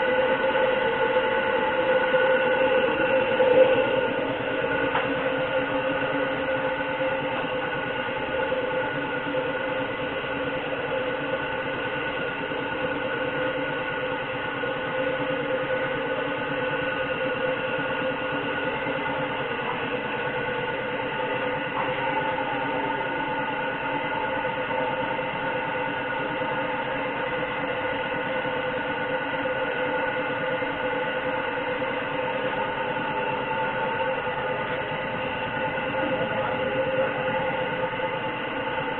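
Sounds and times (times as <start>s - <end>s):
mechanical drone with held tones: 0.0s - 38.9s.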